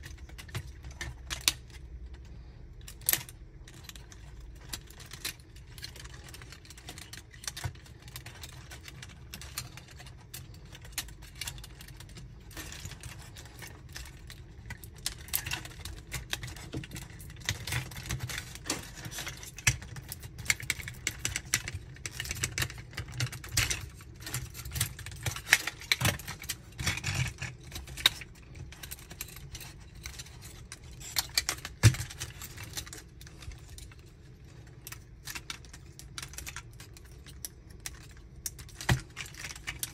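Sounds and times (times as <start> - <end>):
plastic toy parts clicking: 0.0 - 39.9.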